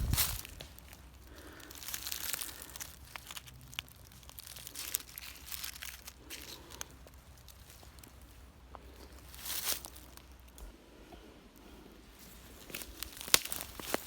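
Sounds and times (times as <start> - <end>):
crunching of dry forest litter: 0.0 - 14.0.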